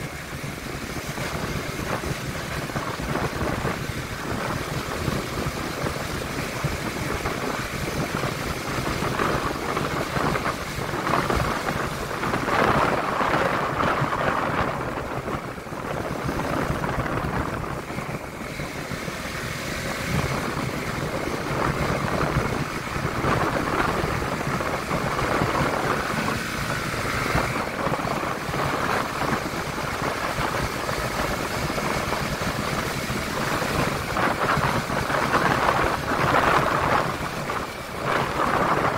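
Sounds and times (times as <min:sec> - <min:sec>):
motorcycle engine and road noise: 0:00.0 - 0:38.9
wind rushing over microphone: 0:00.0 - 0:38.9.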